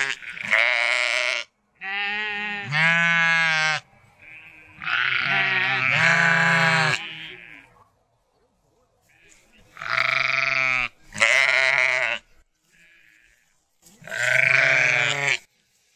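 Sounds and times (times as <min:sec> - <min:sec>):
sheep bleating: 0:00.0 - 0:07.7, 0:09.1 - 0:15.5.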